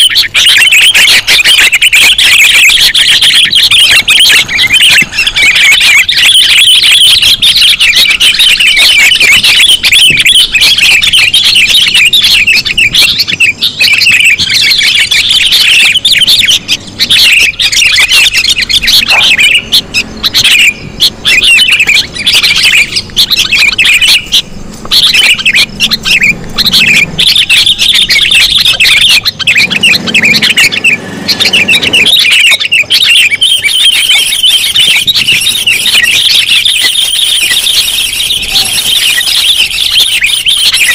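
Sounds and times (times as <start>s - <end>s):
birds chattering and squawking: 0.0s - 40.9s.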